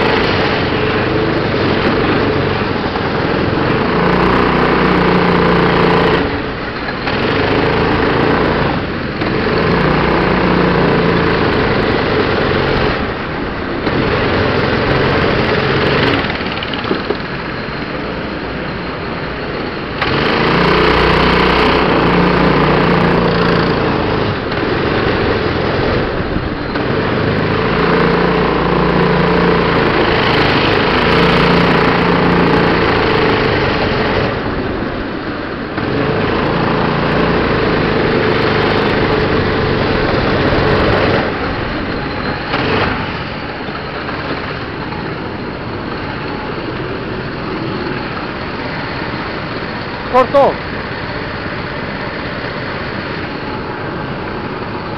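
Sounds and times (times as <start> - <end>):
go-kart engine revving: 0.0 - 54.9.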